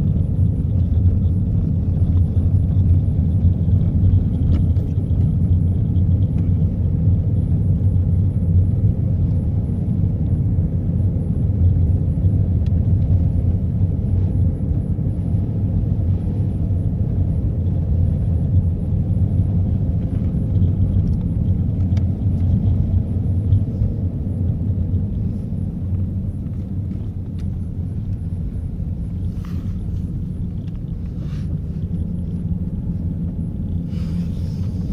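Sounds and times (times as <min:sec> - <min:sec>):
car engine and tyres rumbling: 0:00.0 - 0:34.9.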